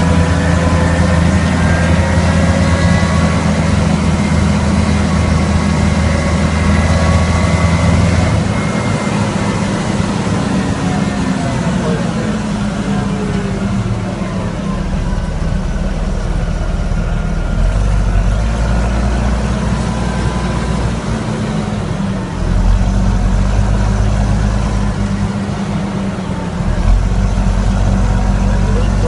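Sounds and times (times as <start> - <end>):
tractor diesel engine droning: 0.0 - 29.0.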